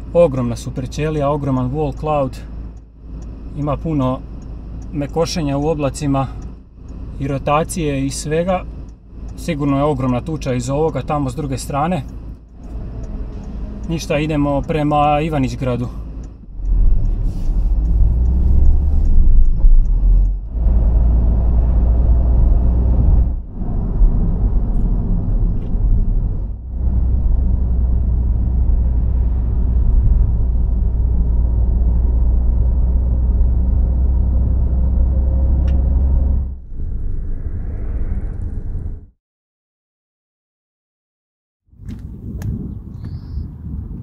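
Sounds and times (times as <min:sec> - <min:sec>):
car driving rumble: 0:00.0 - 0:39.1.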